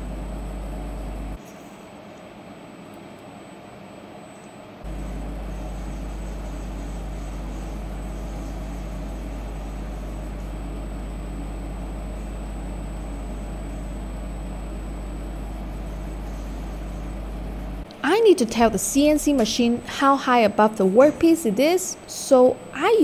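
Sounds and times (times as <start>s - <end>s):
milling machine humming: 0.0s - 1.4s, 2.0s - 23.0s.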